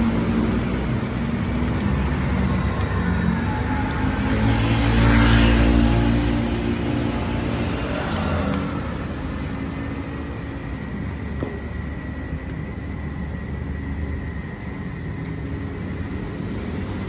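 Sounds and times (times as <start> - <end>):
vehicle engine rumble: 0.0 - 16.9.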